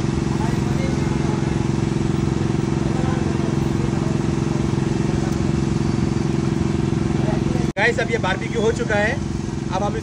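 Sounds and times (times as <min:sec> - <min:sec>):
engine running with low hum: 0:00.0 - 0:10.0.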